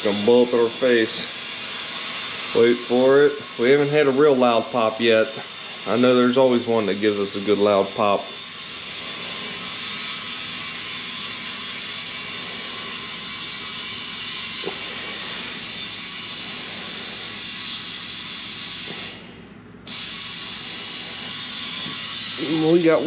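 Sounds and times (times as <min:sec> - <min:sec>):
compressed air hissing into tire: 0:00.0 - 0:23.0.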